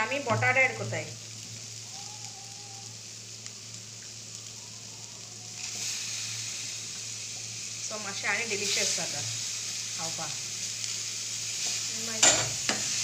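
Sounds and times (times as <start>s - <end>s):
sausages and onions sizzling: 0.0s - 13.0s.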